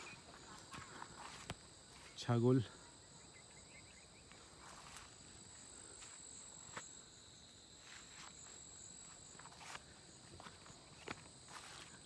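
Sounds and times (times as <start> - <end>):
insects droning in grass: 0.0 - 12.0.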